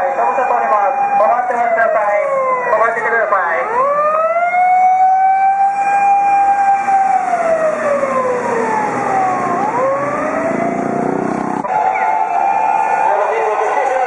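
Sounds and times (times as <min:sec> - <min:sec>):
fire engine siren wailing: 0:00.0 - 0:14.0.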